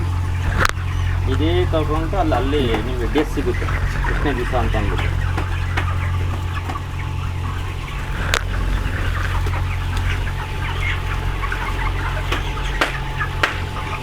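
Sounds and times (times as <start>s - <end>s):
chickens chirping and clucking: 0.0s - 14.0s
ventilation fans humming: 0.0s - 14.0s.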